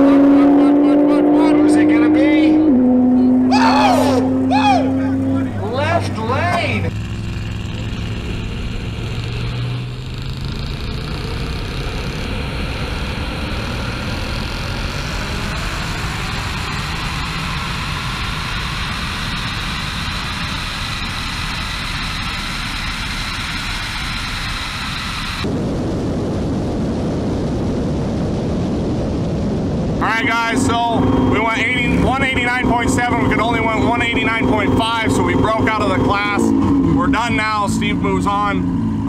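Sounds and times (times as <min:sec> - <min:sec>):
race car engines droning: 0:00.0 - 0:25.5, 0:30.0 - 0:39.0
wind rushing over microphone: 0:00.0 - 0:39.0.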